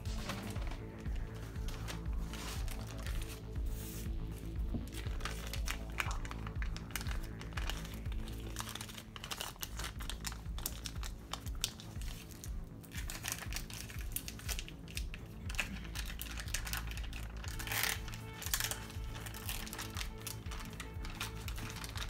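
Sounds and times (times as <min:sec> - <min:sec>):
background music: 0:00.0 - 0:22.0
plastic wrap and paper crinkling: 0:00.0 - 0:22.0.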